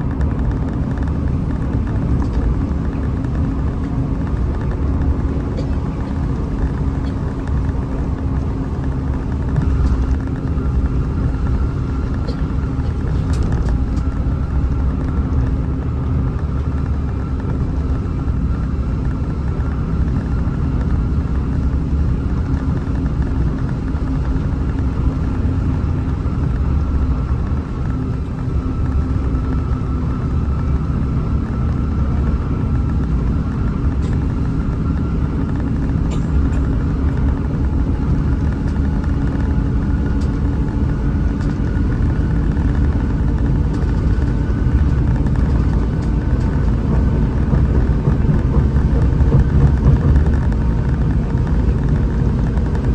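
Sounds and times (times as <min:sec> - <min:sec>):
bus diesel engine rumble: 0:00.0 - 0:52.9
road noise: 0:00.0 - 0:52.9
steady hum: 0:00.0 - 0:52.9.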